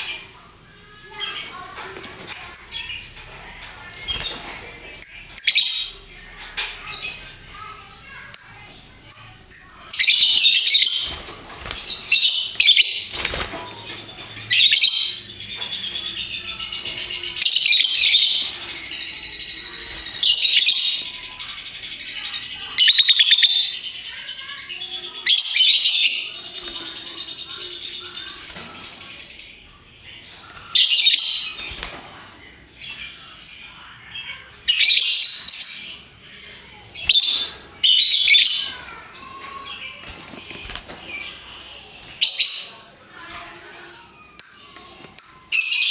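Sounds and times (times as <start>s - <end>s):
lovebirds shrill chattering: 1.0s - 45.9s.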